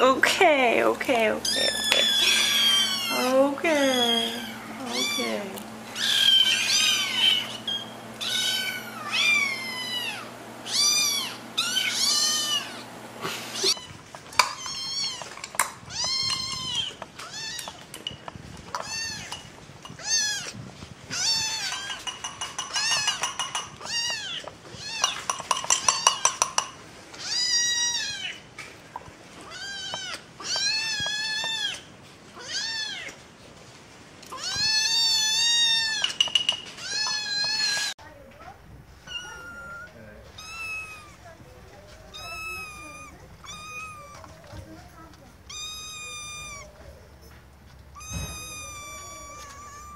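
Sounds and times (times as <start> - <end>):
kittens meowing: 1.4 - 18.0, 18.7 - 28.4, 29.4 - 33.2, 34.3 - 38.0, 39.0 - 47.2, 47.8 - 49.9.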